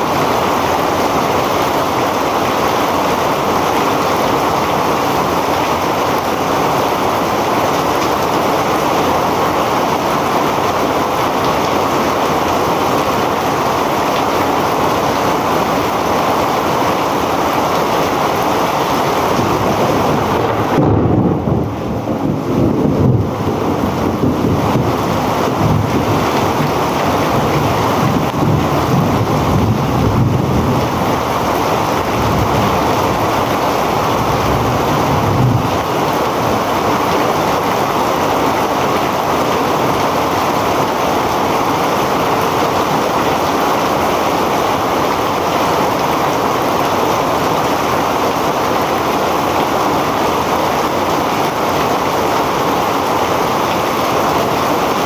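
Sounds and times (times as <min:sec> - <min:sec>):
heavy rain pouring: 0:00.0 - 0:55.0
wind rumbling on microphone: 0:00.0 - 0:55.0.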